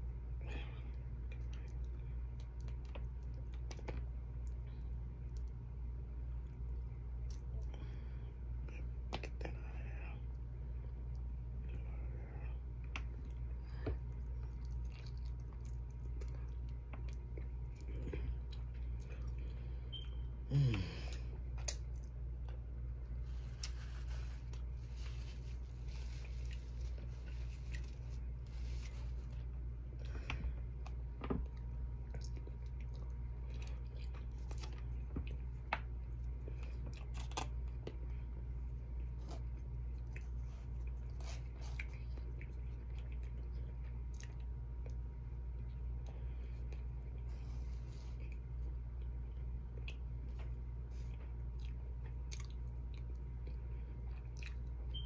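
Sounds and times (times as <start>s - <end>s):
steady low hum: 0.0s - 55.0s
person chewing food: 0.3s - 55.0s.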